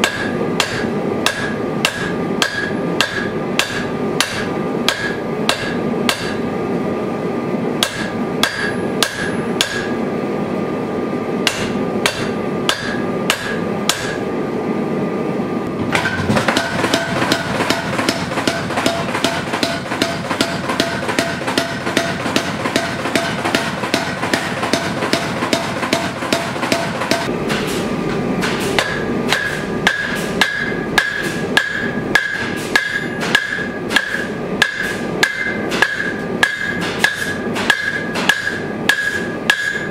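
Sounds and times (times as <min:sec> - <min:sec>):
hammer ringing on anvil: 0:00.0 - 0:06.4, 0:07.8 - 0:09.9, 0:11.5 - 0:14.2, 0:16.0 - 0:27.3, 0:28.8 - 0:39.9
power hammer pounding: 0:00.0 - 0:06.4, 0:07.8 - 0:09.9, 0:11.4 - 0:14.2, 0:15.8 - 0:27.8, 0:28.4 - 0:39.9.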